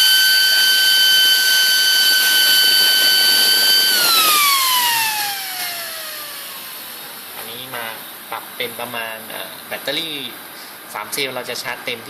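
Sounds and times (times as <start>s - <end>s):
electric fan whining and spinning down: 0.0s - 11.2s.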